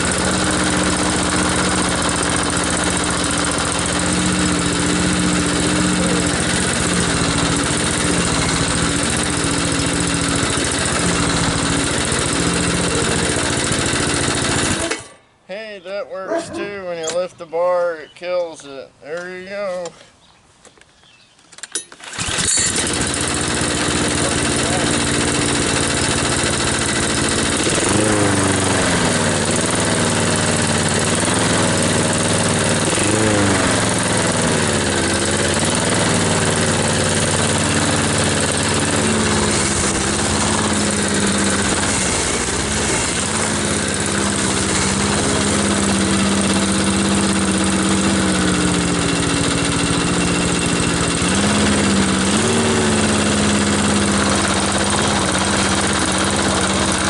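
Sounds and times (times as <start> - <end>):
lawn mower engine revving: 0.0 - 15.2, 22.0 - 57.0.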